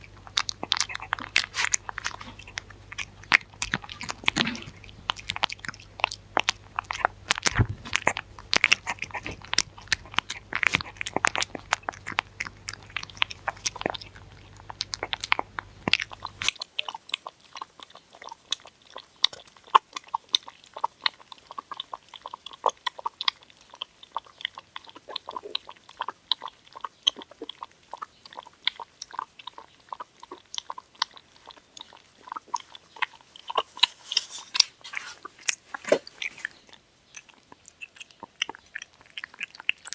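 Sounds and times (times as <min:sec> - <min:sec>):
dog crunching food: 0:00.0 - 0:39.9
faint low hum: 0:00.0 - 0:39.9.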